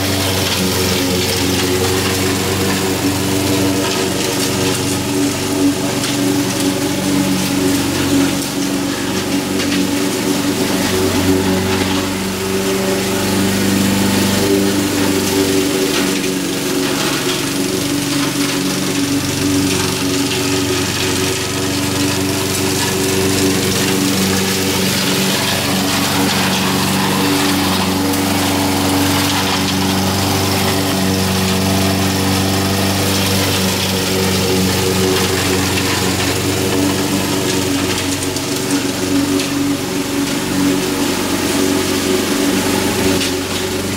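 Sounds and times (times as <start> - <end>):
lawn mower engine cutting grass: 0.0 - 43.9.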